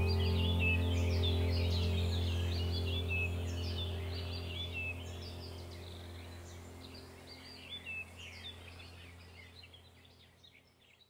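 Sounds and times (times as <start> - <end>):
faint birds chirping: 0.0 - 11.0
low steady hum: 0.0 - 11.0.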